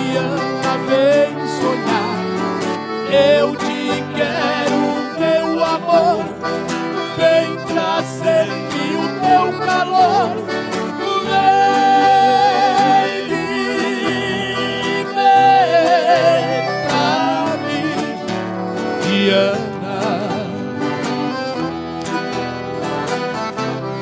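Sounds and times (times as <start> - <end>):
two-part harmony singing: 0.0 - 22.1
plucked-string accompaniment: 0.0 - 24.0.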